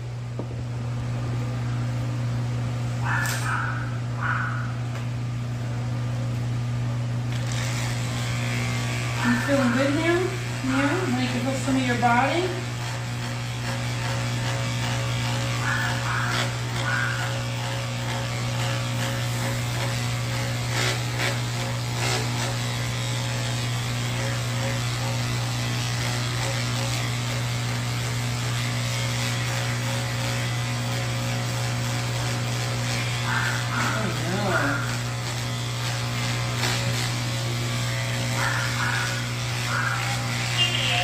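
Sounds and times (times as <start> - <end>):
electric pet clippers humming: 0.0 - 41.0.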